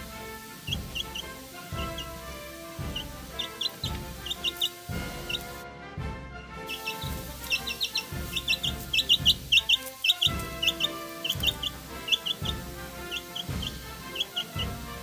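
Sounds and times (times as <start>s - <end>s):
background music with low beat: 0.0s - 15.0s.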